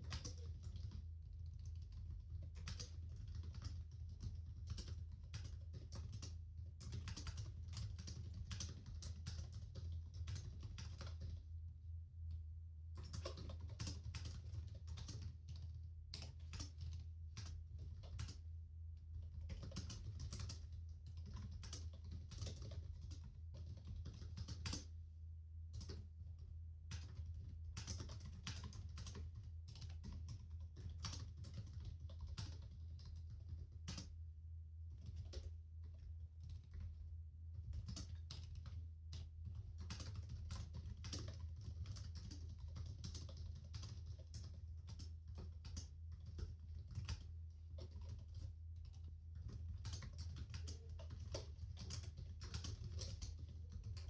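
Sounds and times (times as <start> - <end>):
laptop keyboard typing: 0.0 - 11.4, 13.0 - 18.4, 19.1 - 24.9, 25.7 - 34.1, 35.0 - 54.0
steady low hum: 0.0 - 54.0.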